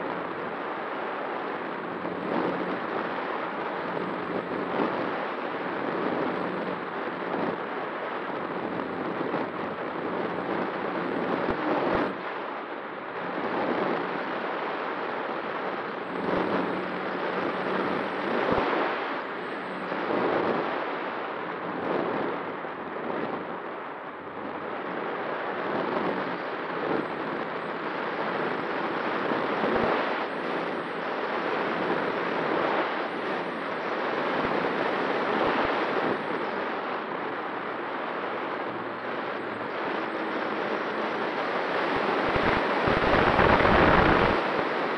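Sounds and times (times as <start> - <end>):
faint motor and propeller hum: 0.0 - 44.9
wind rushing past camera: 0.0 - 44.9.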